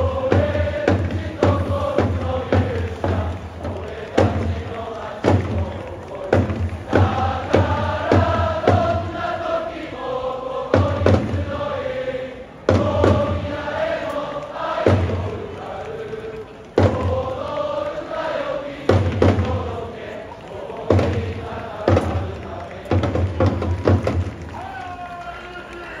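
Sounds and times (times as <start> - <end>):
loud rhythmic thumps: 0.0 - 11.9, 12.5 - 24.8
crowd singing a chant: 0.0 - 24.6.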